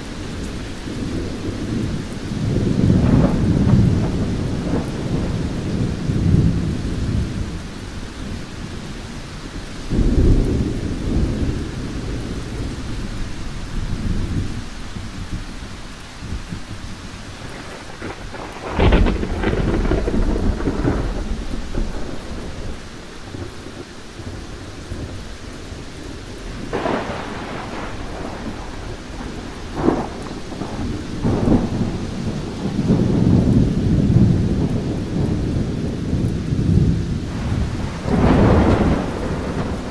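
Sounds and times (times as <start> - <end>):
rolling thunder: 0.0 - 39.9
steady rain: 0.0 - 39.9
loud thunderclap: 0.3 - 7.6, 9.9 - 15.4, 17.4 - 24.4, 26.4 - 39.9.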